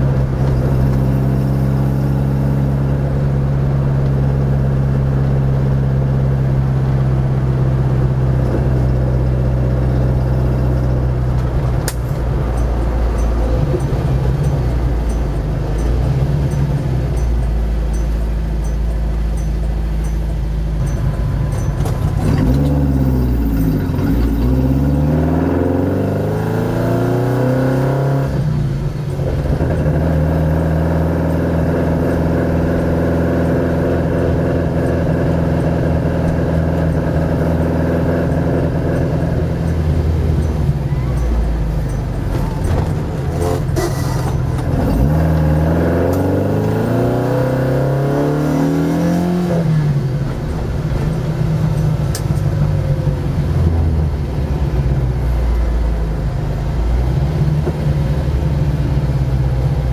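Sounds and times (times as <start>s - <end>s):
car engine revving through gears: 0.0s - 19.2s, 20.5s - 59.9s.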